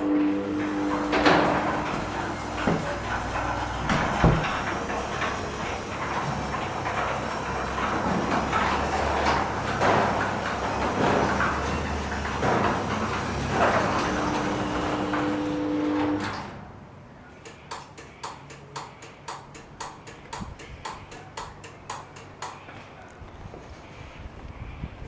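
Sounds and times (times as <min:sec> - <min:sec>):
garage door rumbling hum: 0:00.0 - 0:22.7.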